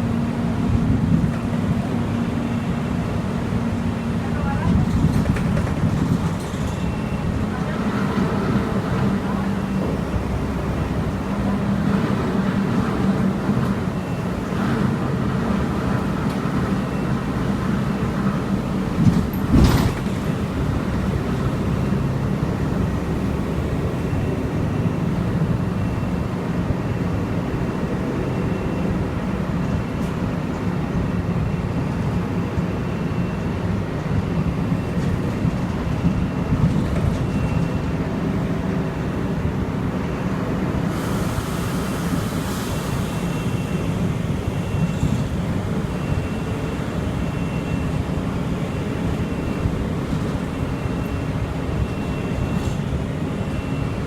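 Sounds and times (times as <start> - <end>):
low vehicle noise: 0.0 - 54.0.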